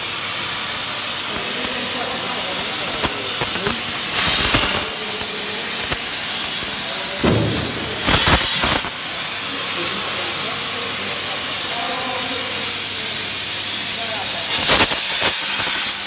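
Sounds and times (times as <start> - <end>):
plasma torch cutting steel: 0.0 - 16.0.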